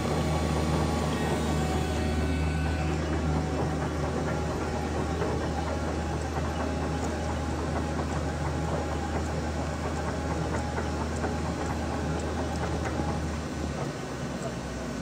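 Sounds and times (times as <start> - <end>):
lathe spindle humming: 0.0 - 15.0.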